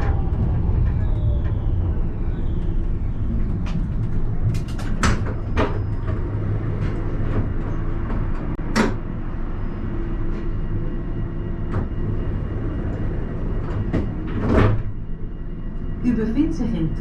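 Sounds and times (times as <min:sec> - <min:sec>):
tram running rumble: 0:00.0 - 0:17.0.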